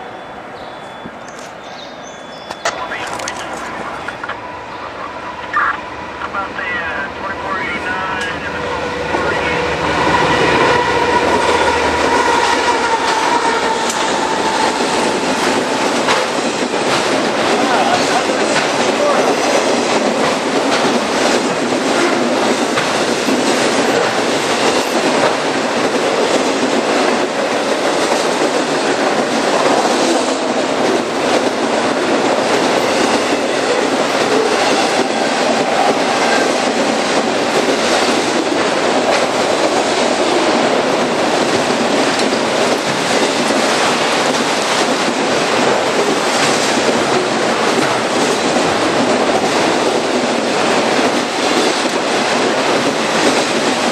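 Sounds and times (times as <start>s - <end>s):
train wheels rumbling on rail: 0.9s - 53.9s
wheels clacking over rail joints: 10.2s - 53.9s.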